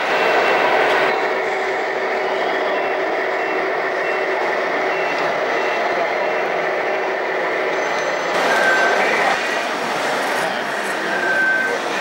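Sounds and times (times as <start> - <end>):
reversing beeps: 0.0 - 1.4, 2.0 - 7.1, 7.7 - 9.8, 10.4 - 12.0
truck engine drone: 0.0 - 12.0.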